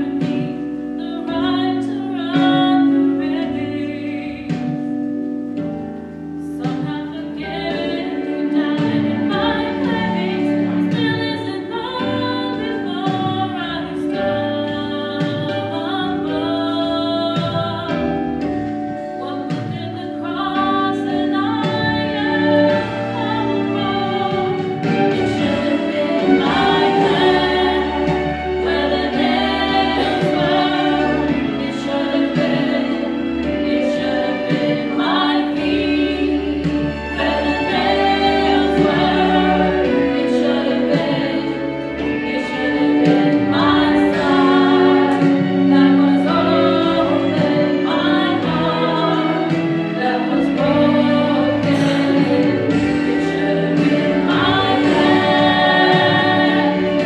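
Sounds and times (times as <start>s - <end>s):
choir singing: 6.4s - 17.9s, 20.2s - 57.0s.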